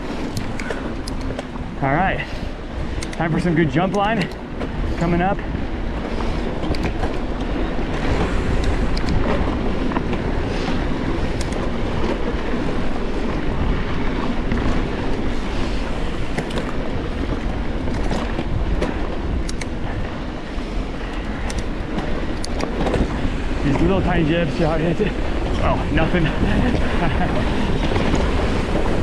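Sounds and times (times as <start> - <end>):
bike clicks and rattles: 0.0 - 29.0
tyres rolling over dirt trail: 0.0 - 29.0
wind rushing over microphone: 0.0 - 29.0.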